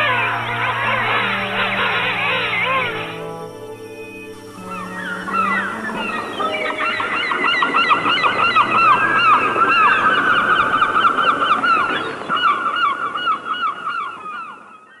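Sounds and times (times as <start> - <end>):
chorus of birds calling: 0.0 - 15.0.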